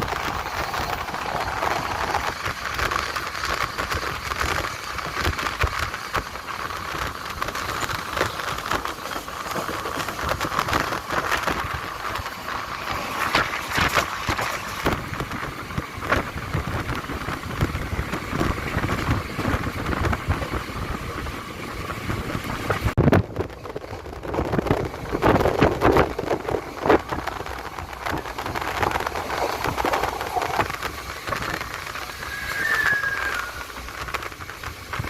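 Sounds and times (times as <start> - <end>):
moving train rumble: 0.0 - 35.0
rain: 0.0 - 35.0
wind noise: 0.0 - 35.0.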